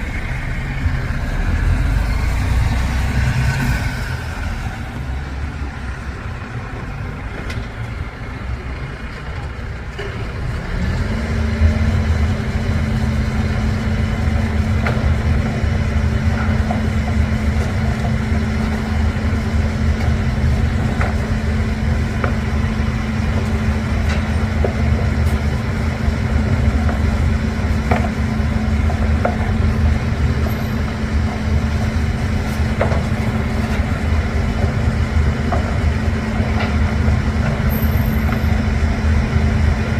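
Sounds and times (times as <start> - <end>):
garbage truck engine rumble: 0.0 - 39.9.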